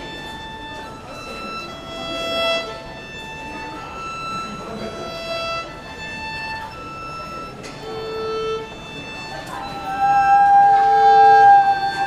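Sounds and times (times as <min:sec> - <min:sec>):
solo violin playing held notes: 0:00.0 - 0:12.0.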